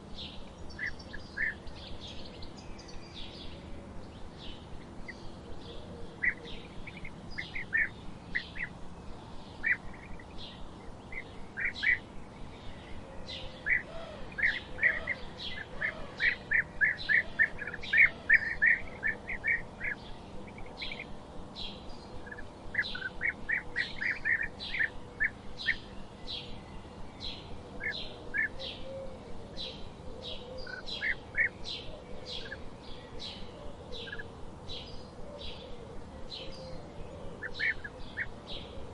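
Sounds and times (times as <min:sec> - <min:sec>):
faint forest background hiss: 0:00.0 - 0:38.9
small birds chirping: 0:00.0 - 0:38.9.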